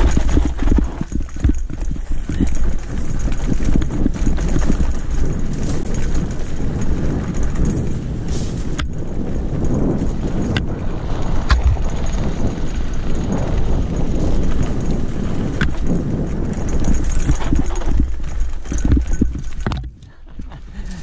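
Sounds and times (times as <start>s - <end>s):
bike knocking over bumps: 0.0s - 20.0s
tyres rumbling over dirt: 0.0s - 20.1s.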